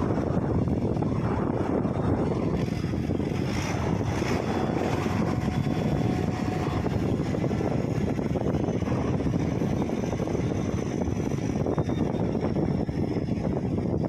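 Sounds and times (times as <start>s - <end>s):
faint thin whine: 0.0s - 14.0s
heavy engine rumbling: 0.0s - 14.0s.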